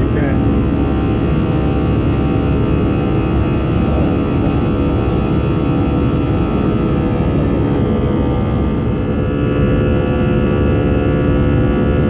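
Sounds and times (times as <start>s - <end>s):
jet cabin engine and airflow noise: 0.0s - 12.0s.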